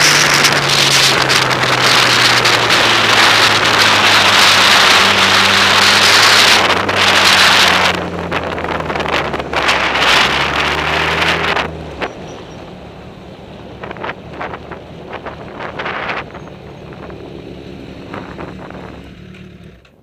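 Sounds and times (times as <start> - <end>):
wind noise on microphone: 0.0 - 12.8, 13.6 - 19.3
motorcycle engine running: 0.0 - 20.0.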